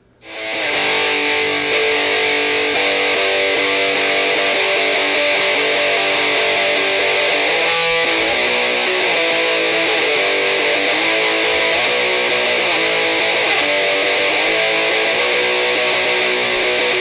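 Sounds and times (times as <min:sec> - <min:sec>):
rock song with electric guitar: 0:00.2 - 0:17.0.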